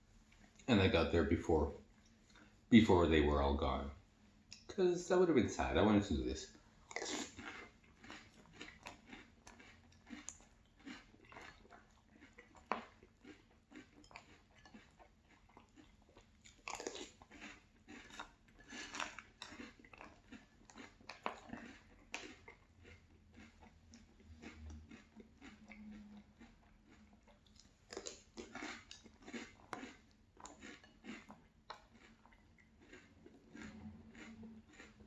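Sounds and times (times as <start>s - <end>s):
chewing crunchy cereal: 4.6s - 35.0s.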